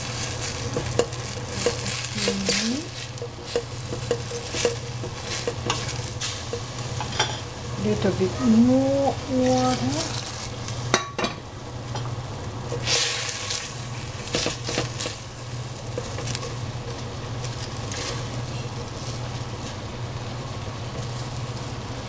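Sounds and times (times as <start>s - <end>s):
steady low hum: 0.0s - 22.0s
vegetables sizzling in pan: 0.0s - 22.0s.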